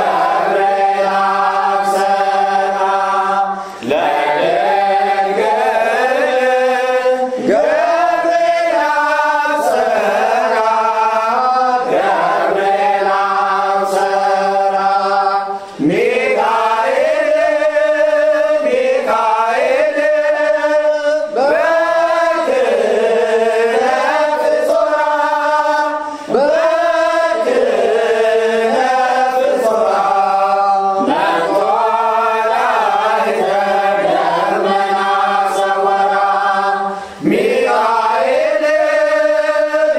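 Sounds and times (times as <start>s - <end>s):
voices chanting a hymn: 0.0s - 39.9s.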